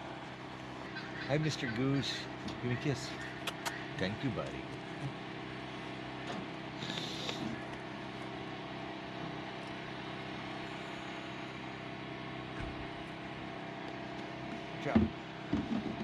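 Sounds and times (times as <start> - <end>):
engine-like drone: 0.0 - 16.0.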